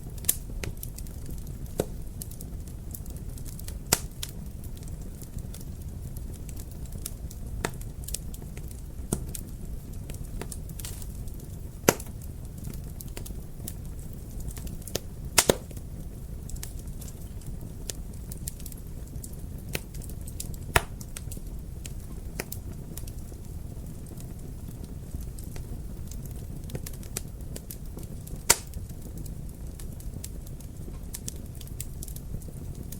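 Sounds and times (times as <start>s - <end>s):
wood fire crackling: 0.0s - 32.9s
sharp pops of burning wood: 0.1s - 32.9s.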